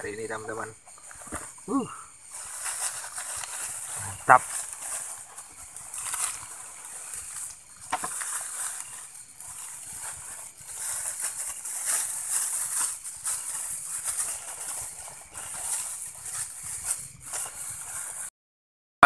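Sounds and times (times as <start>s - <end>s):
night insects chorus: 0.0s - 18.3s.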